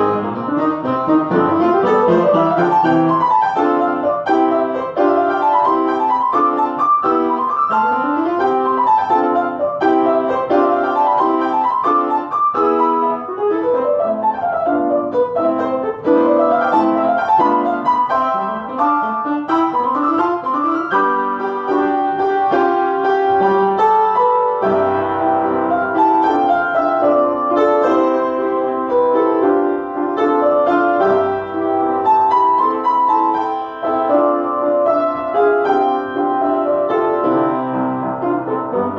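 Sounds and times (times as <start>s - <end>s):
solo piano playing: 0.0s - 38.9s.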